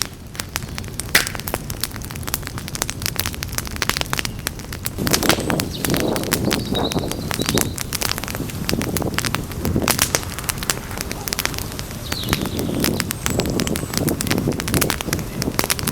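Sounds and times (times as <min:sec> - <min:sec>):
burning wood crackling and popping: 0:00.0 - 0:15.9
low rumble of flames: 0:00.0 - 0:15.9.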